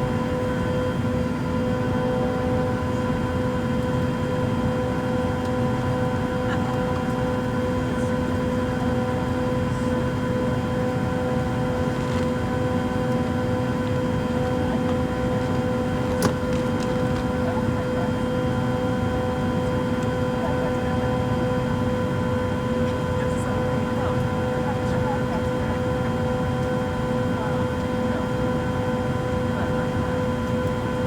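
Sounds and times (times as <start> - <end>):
jet engine drone: 0.0 - 31.0.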